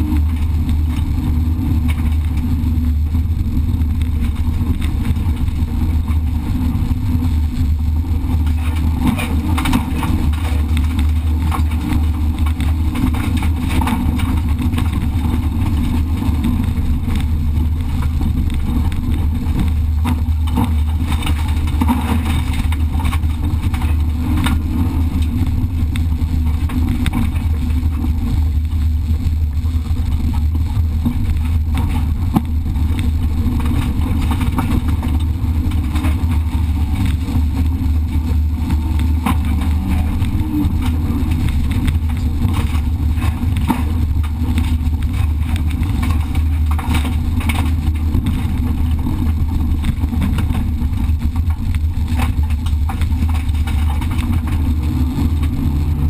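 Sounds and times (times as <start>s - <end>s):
gravel pinging against car: 0.0s - 56.0s
rally car engine running hard: 0.0s - 56.0s.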